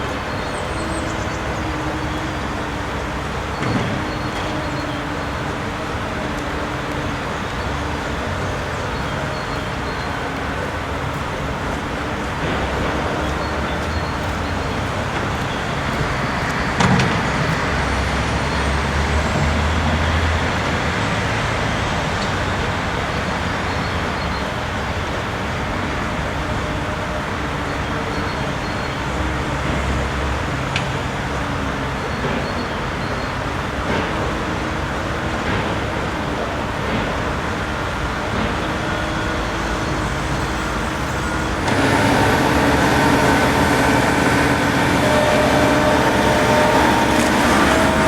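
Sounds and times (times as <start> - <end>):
diesel machinery rumbling: 0.0 - 48.0.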